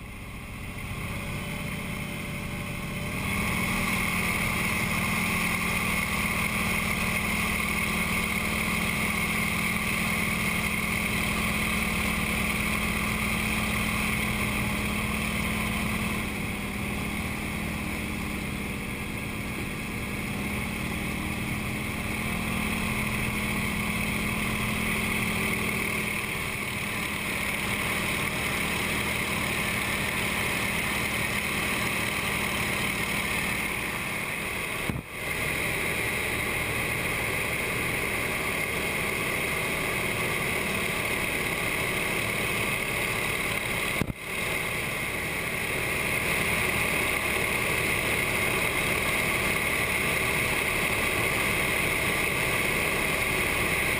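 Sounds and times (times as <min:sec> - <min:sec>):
propeller hum: 0:00.0 - 0:53.9
radial aircraft engine running: 0:00.0 - 0:53.9.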